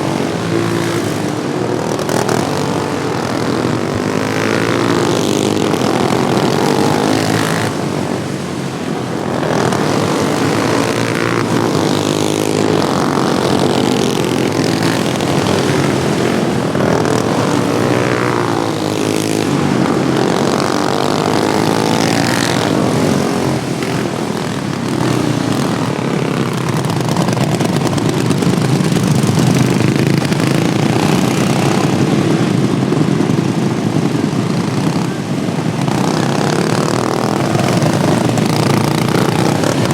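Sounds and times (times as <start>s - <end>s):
racing lawnmower engines: 0.0s - 39.9s.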